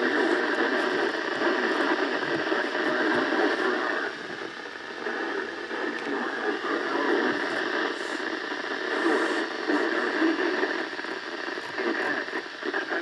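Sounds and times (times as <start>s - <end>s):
faint radio broadcast: 0.0s - 13.0s
radio static hiss with crackle: 0.0s - 13.0s.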